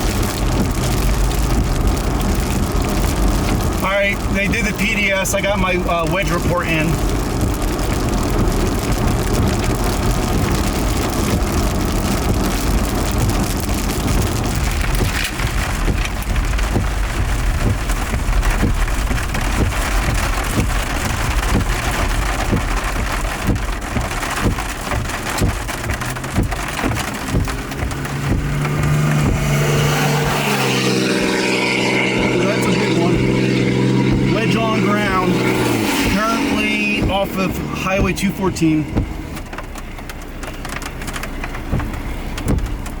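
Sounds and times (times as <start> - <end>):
heavy rain on vehicle: 0.0 - 43.0
raindrops tapping windshield: 0.0 - 43.0
road and engine noise: 0.0 - 43.0.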